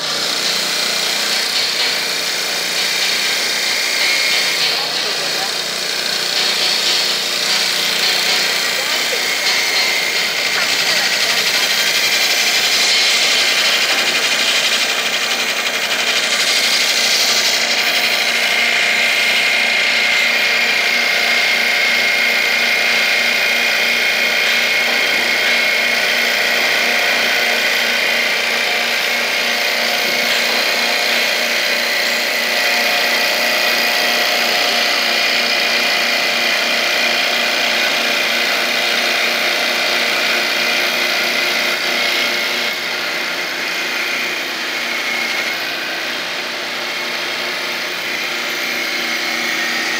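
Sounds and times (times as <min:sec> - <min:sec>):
high machine whine: 0:00.0 - 0:49.9
lathe cutters shaving wood: 0:00.0 - 0:49.9.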